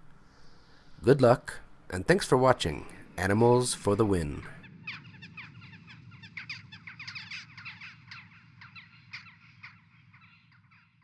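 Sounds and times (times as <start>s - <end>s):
low steady hum: 0.0s - 10.3s
birds chirping: 0.3s - 11.0s.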